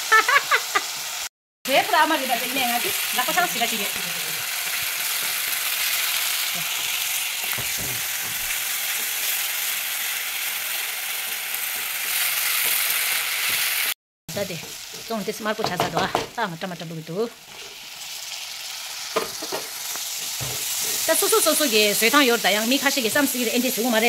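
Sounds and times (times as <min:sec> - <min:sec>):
onions sizzling in hot oil: 0:00.1 - 0:24.0.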